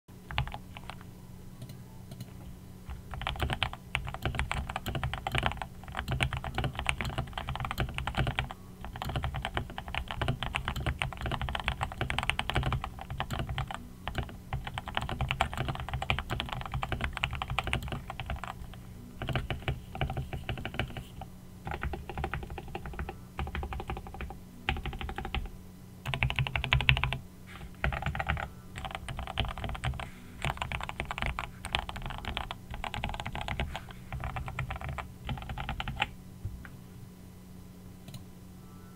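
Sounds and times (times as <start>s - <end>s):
faint steady hum: 0.1s - 38.9s.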